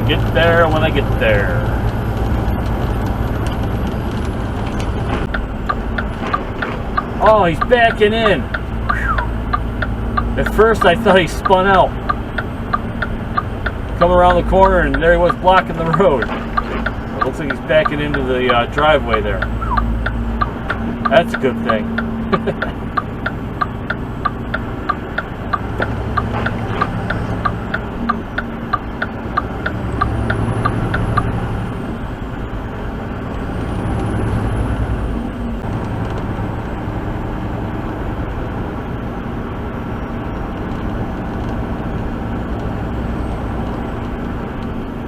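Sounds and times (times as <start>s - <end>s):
engine and road noise: 0.0s - 45.0s
turn signal ticking: 0.1s - 34.6s, 37.7s - 45.0s.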